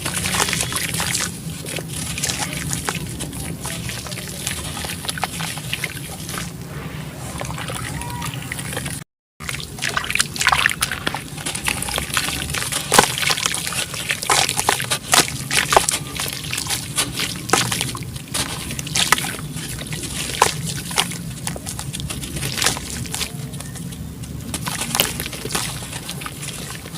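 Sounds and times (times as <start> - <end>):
sharp crackles of crumbling cement: 0.0 - 6.6, 9.6 - 26.9
water sloshing and trickling: 0.0 - 26.9.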